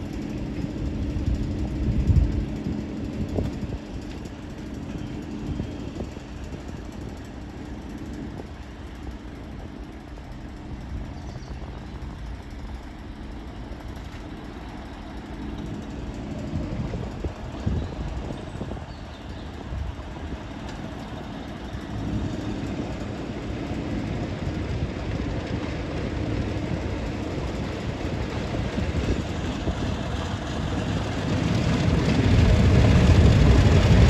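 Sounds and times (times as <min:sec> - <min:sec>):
diesel locomotive engine drone: 0:00.0 - 0:34.0.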